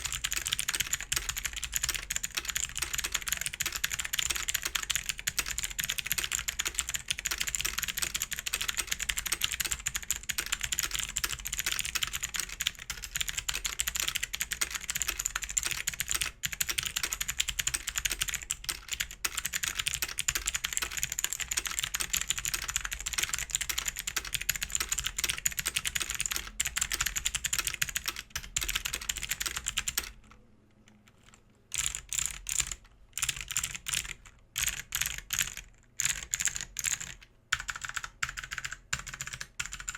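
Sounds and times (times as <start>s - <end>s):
clicky keyboard typing: 0.0s - 30.4s, 31.2s - 39.9s.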